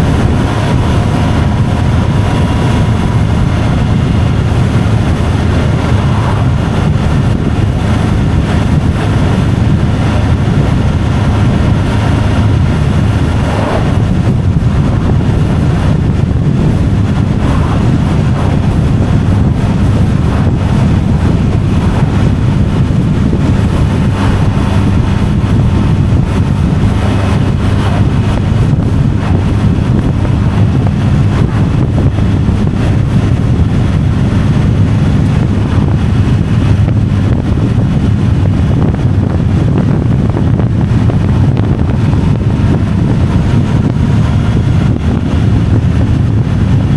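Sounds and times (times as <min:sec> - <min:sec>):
engine and road noise: 0:00.0 - 0:46.9
wind on microphone: 0:00.0 - 0:46.9.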